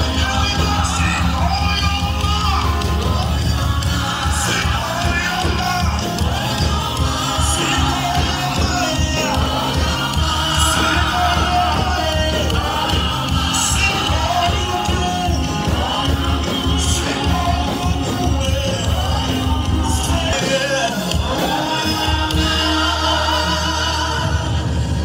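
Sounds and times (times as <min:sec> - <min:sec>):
band playing: 0:00.0 - 0:25.0
group singing worship music: 0:00.0 - 0:25.0.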